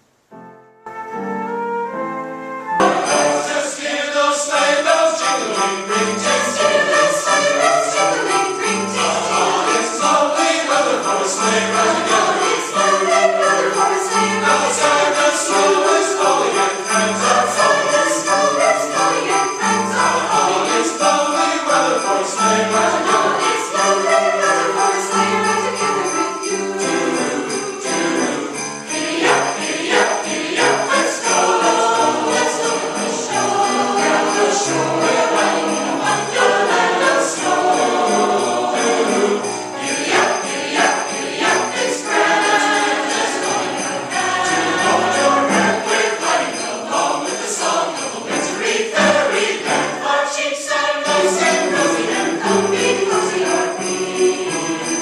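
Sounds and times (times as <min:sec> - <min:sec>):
choir singing: 0:02.7 - 0:55.0
sleigh bells jingling: 0:02.8 - 0:55.0.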